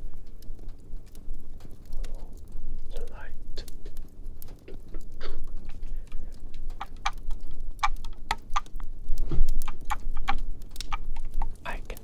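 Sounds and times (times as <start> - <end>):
fireplace crackling: 0.0 - 12.0.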